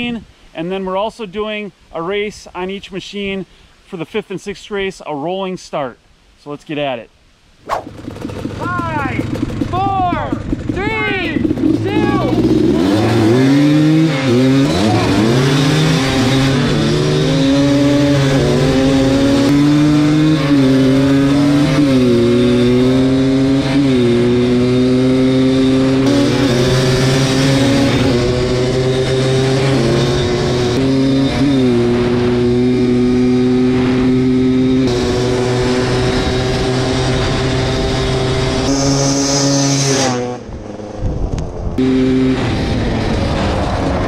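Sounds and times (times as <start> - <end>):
two-stroke engines at full throttle: 7.7 - 44.0.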